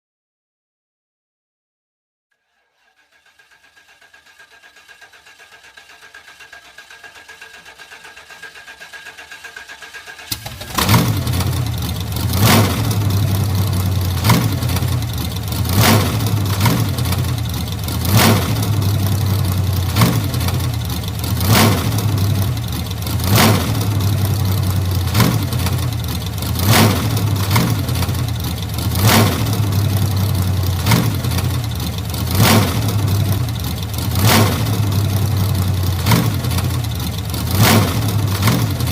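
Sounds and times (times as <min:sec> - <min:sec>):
car engine cranking and running: 0:02.6 - 0:38.9.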